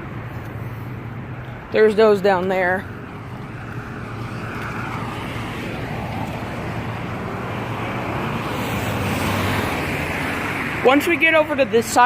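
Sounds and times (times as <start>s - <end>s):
busy road traffic: 0.0s - 12.0s.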